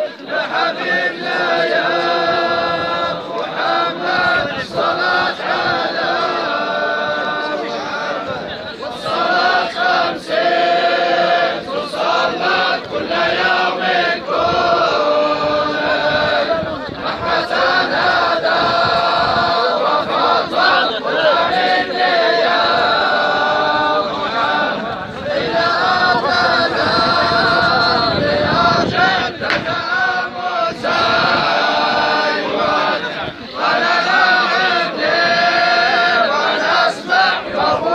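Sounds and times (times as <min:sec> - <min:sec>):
men chanting together: 0:00.0 - 0:37.9.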